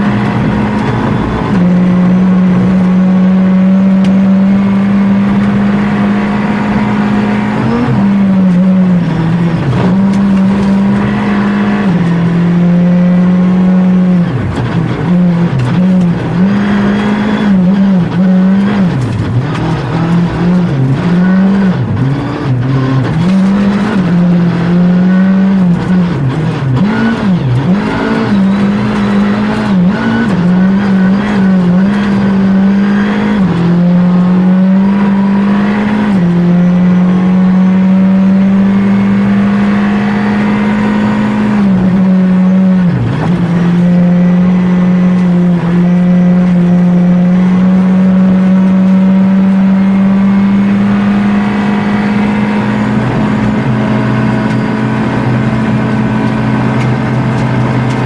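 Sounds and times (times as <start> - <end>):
rally car engine running hard: 0.0 - 58.0.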